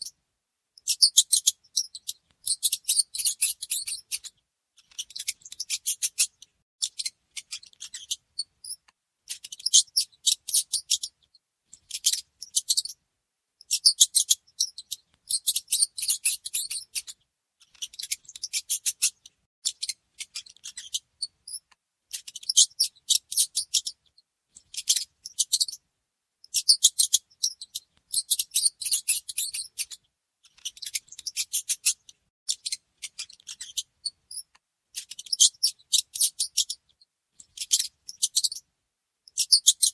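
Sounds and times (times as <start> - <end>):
mice squeaking: 0.8 - 13.0, 13.6 - 25.8, 26.4 - 38.6, 39.3 - 39.9.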